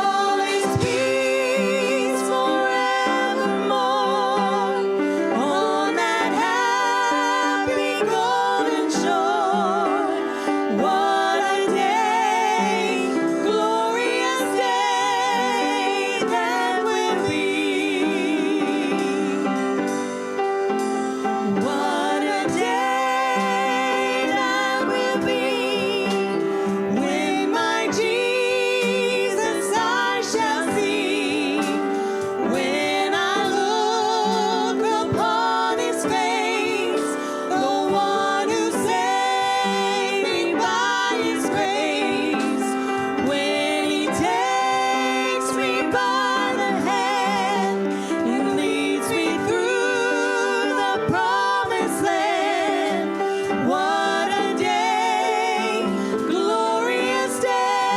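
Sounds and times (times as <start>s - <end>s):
instrumental accompaniment: 0.0s - 57.9s
person singing with vibrato: 0.0s - 57.9s.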